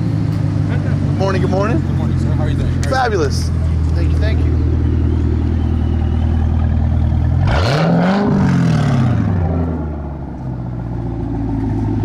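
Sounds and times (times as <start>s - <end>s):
car engine revving: 0.0s - 12.0s
engine idling: 0.0s - 12.0s.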